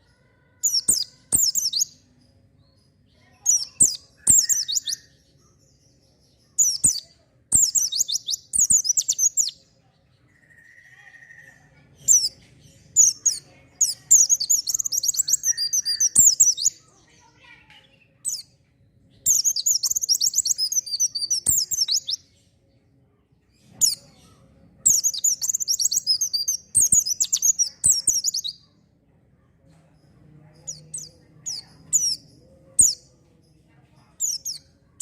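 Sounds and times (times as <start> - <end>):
bird twittering song: 0.0 - 35.0.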